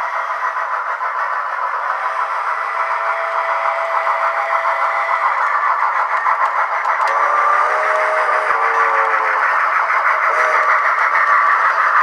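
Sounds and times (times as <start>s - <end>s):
steam locomotive exhaust chuffing: 0.0s - 12.0s.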